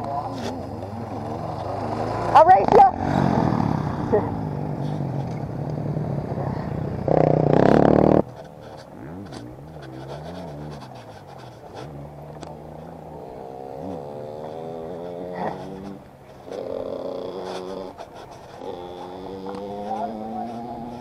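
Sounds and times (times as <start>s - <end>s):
dirt bike motor revving: 0.5s - 21.0s.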